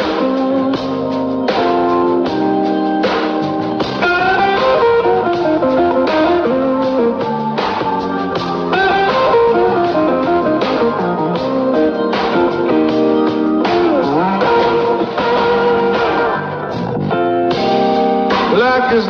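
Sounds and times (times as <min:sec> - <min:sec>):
blues guitar lead: 0:00.0 - 0:19.0.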